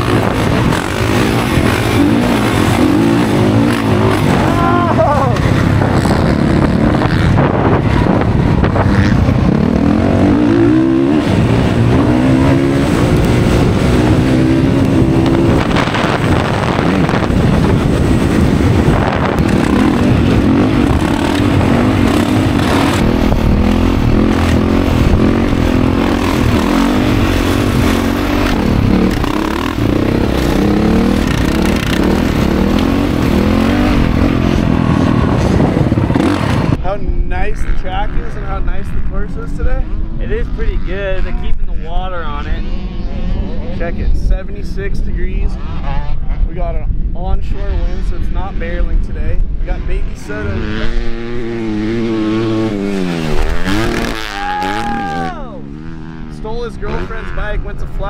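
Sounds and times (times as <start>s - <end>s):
dirt bike engine revving: 0.0s - 46.6s, 47.5s - 58.0s.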